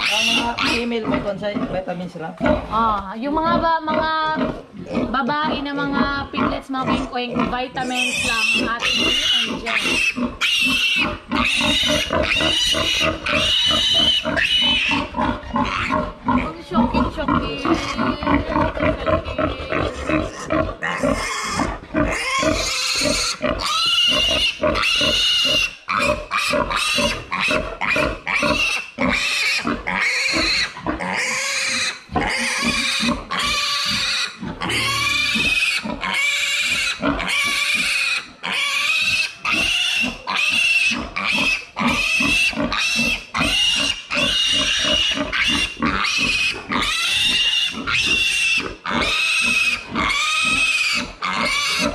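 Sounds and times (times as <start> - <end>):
piglet squealing: 0.0 - 1.0, 4.9 - 51.9.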